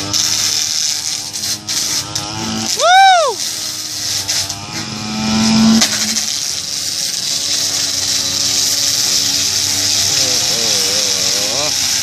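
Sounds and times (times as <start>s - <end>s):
brush cutter blade scraping concrete: 0.0s - 12.0s.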